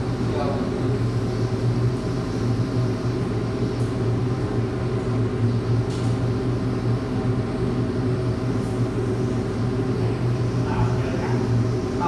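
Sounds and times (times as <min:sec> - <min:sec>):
kitchen equipment humming: 0:00.0 - 0:12.0.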